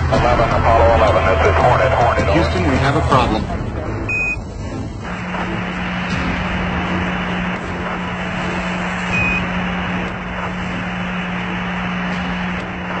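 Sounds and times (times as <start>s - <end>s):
radio static hiss: 0.0s - 3.6s, 5.0s - 13.0s
constant low hum: 0.0s - 13.0s.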